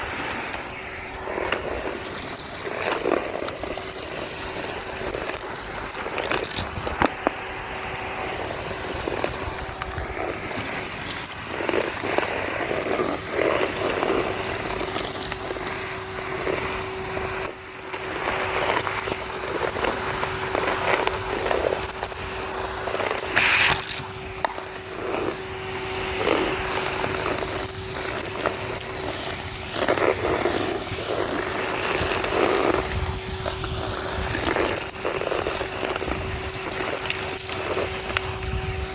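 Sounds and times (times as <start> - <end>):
hose sucking up grit: 0.0 - 38.9
vacuum cleaner motor hum: 0.0 - 38.9.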